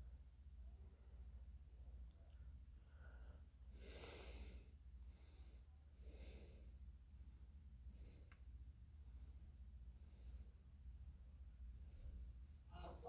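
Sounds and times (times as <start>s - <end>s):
low hum: 0.0s - 13.0s
soft breaths: 0.1s - 13.0s.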